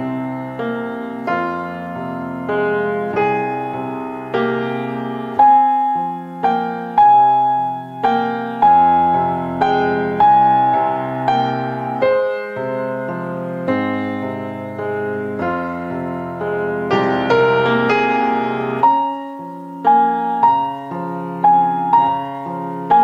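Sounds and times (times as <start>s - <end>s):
slow solo piano melody: 0.0s - 23.0s.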